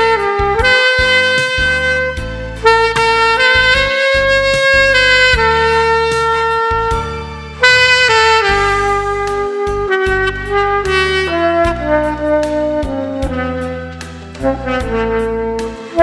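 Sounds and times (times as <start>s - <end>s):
backing track: 0.0s - 16.0s
saxophone slow melody: 0.0s - 16.0s.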